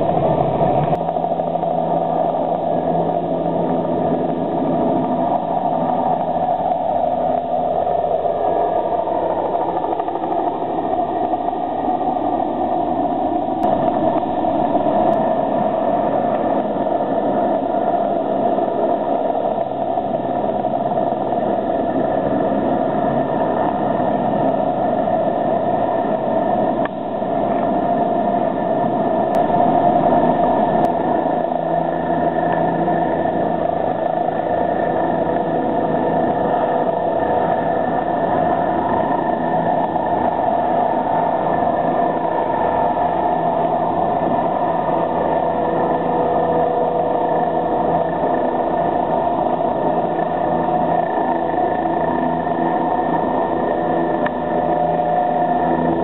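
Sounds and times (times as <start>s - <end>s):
helicopter turbine whine: 0.0s - 56.0s.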